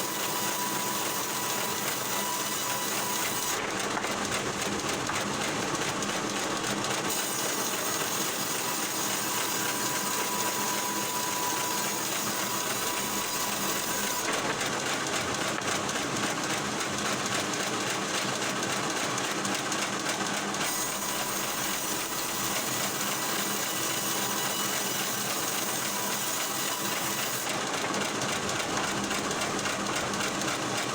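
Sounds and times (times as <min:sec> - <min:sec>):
log-cutting machinery clatter: 0:00.0 - 0:30.9.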